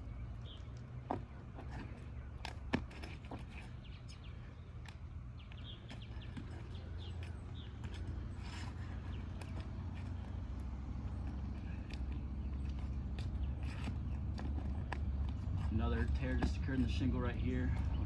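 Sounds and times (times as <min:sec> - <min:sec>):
low steady rumble: 0:00.0 - 0:18.0
pry bar clicking and scraping: 0:01.1 - 0:17.0.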